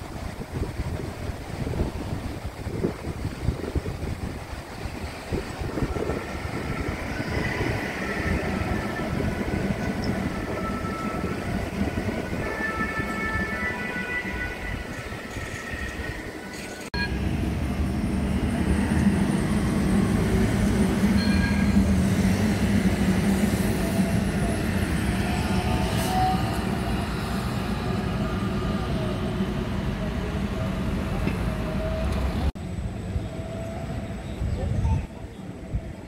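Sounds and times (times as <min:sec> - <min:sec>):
street background noise: 0:00.0 - 0:36.0
tram passing with low hum: 0:00.0 - 0:36.0.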